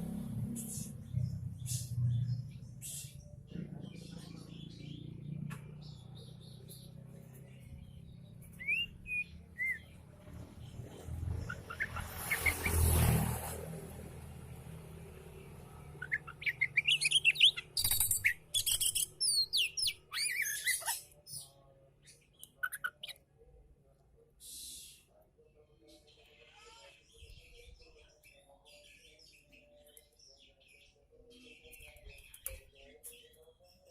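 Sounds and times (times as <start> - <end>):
bird singing: 0.0 - 13.0, 15.4 - 23.5, 24.4 - 33.9.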